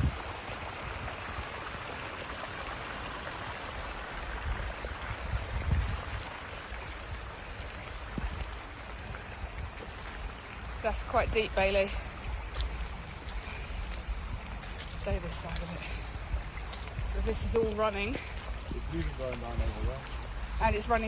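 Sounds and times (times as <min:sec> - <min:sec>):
wind buffeting microphone: 0:00.0 - 0:01.7, 0:04.2 - 0:21.0
light rain: 0:00.0 - 0:21.0
rainwater runoff flowing: 0:00.0 - 0:21.0.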